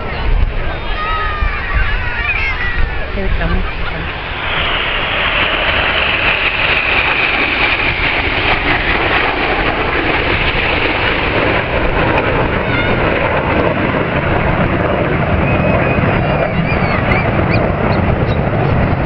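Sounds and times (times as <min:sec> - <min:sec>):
jets roaring overhead: 0:00.0 - 0:19.0.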